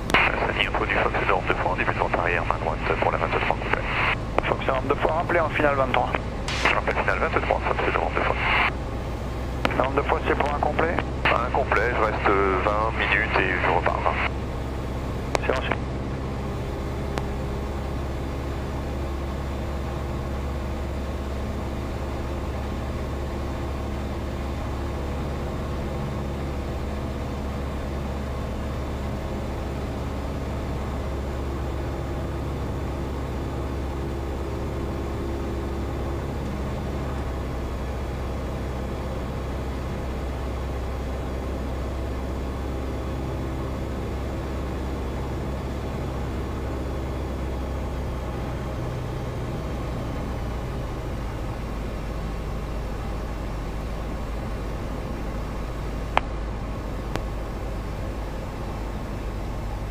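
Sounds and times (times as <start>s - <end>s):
small plane engine droning: 0.0s - 59.9s.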